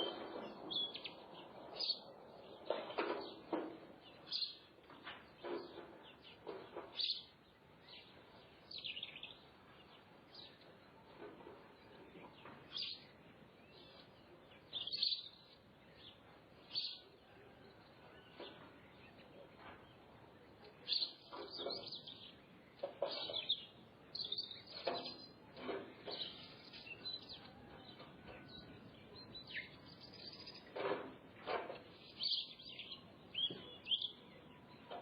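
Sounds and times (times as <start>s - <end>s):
birds chirping and calling: 0.0s - 17.2s, 17.8s - 35.0s.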